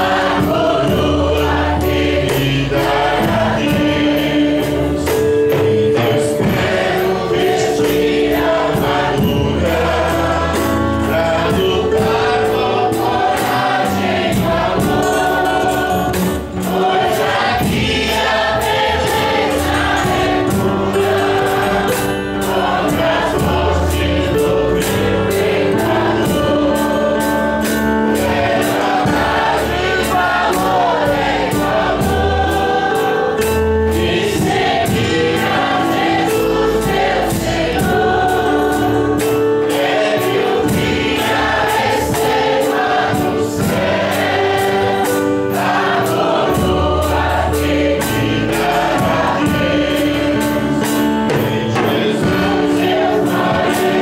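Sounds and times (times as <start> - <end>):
group of voices singing: 0.0 - 54.0
steady beat: 0.0 - 54.0.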